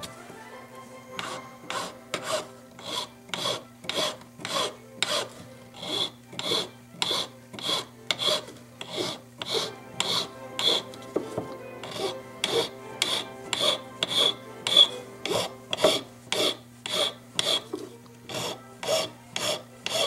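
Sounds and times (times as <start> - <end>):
hand file rasping on metal: 1.2 - 11.0, 11.8 - 20.0.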